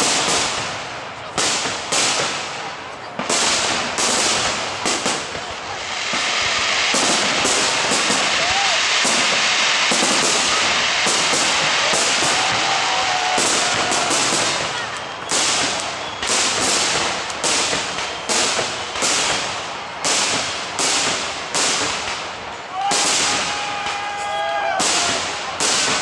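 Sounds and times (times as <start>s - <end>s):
firework shells crackling and banging: 0.0s - 26.0s.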